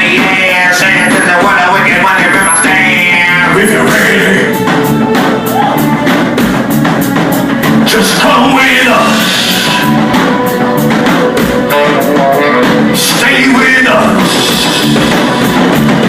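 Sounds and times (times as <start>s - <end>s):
drum kit steady beat: 0.0s - 16.0s
guitar: 0.0s - 16.0s.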